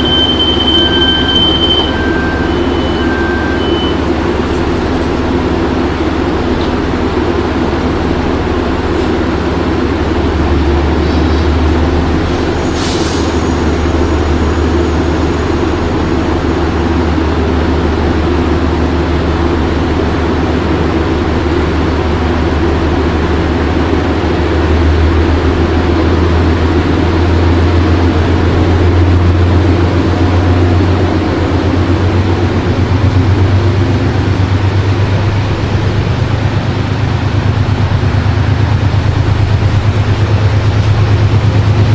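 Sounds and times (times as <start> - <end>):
diesel locomotive engine humming: 0.0 - 41.9.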